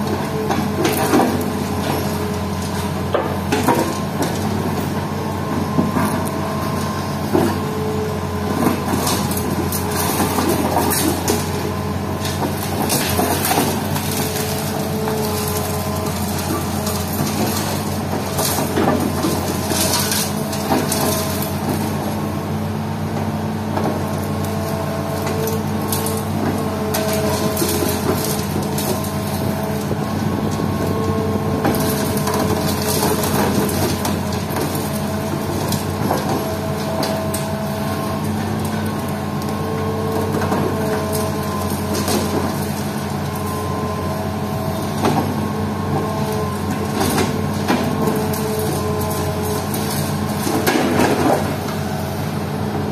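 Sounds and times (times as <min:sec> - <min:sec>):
excavator diesel engine running: 0:00.0 - 0:52.9
rubble cracking and crunching: 0:00.5 - 0:22.0, 0:23.8 - 0:51.9.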